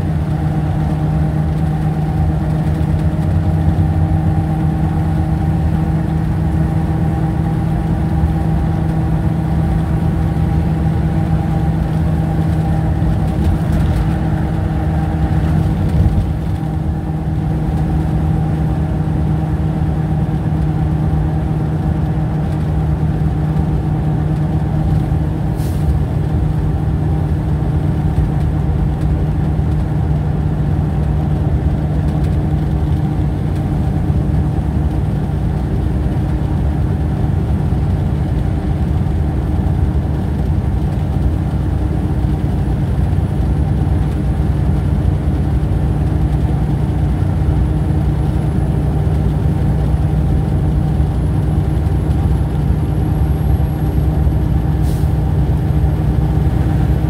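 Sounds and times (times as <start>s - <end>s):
engine drone inside vehicle: 0.0s - 57.0s.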